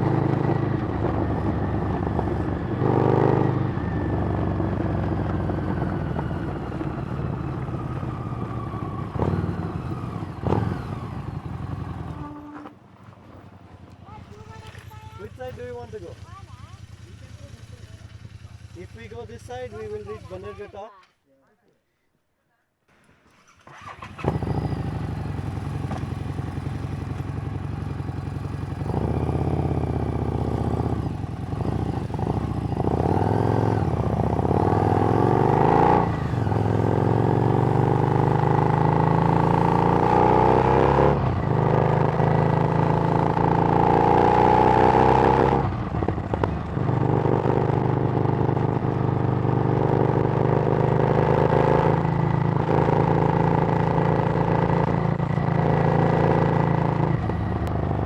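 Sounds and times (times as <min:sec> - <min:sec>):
motorcycle accelerating through gears: 0:00.0 - 0:12.4, 0:23.4 - 0:58.0.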